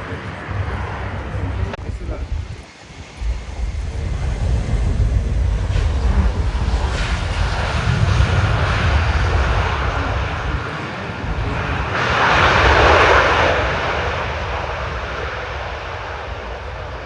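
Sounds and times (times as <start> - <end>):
low rumble: 0.0 - 17.0
plane engine roar flying past: 0.0 - 17.0.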